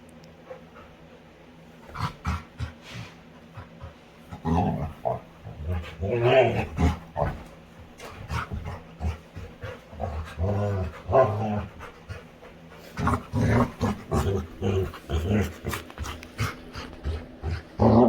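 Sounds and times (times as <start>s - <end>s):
dog panting: 0.4s - 17.8s
dog grunting: 1.8s - 18.0s.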